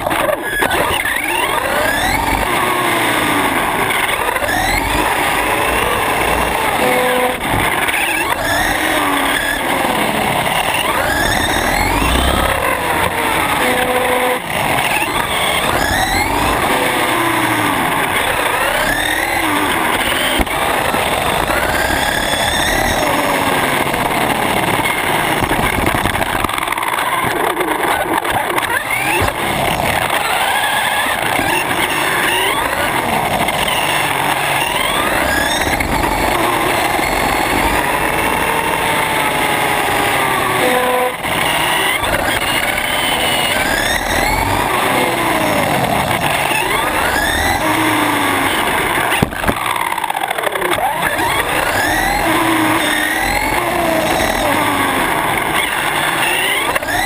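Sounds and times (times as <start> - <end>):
electric motor whine: 0.0 - 57.0
tyre and road noise: 0.0 - 57.0.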